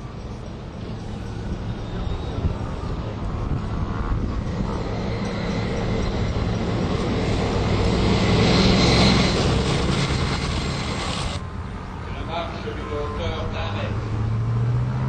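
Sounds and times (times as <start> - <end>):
tank engine and tracks rumbling: 0.0 - 15.0.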